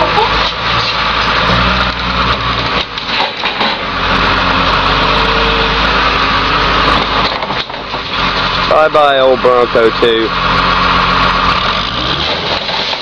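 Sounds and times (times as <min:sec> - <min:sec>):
diesel loader engine running hard: 0:00.0 - 0:13.0.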